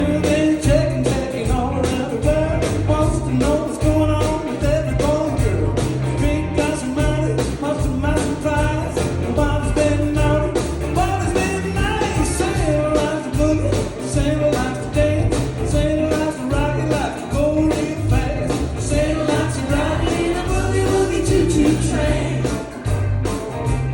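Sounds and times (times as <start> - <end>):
person singing: 0.0 - 22.8
band playing rock and roll: 0.0 - 23.9.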